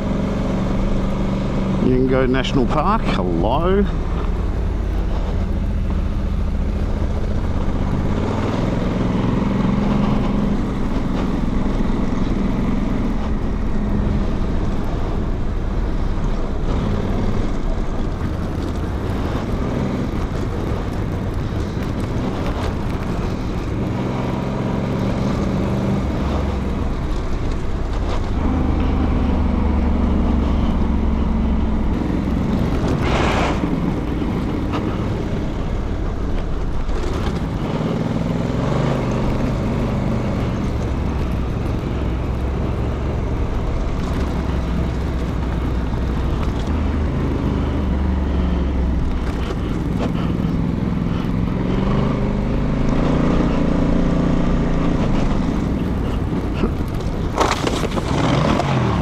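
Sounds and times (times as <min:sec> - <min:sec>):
motorcycle engine running: 0:00.0 - 0:59.0
tyres on dirt: 0:00.0 - 0:59.0
wind noise: 0:03.9 - 0:59.0.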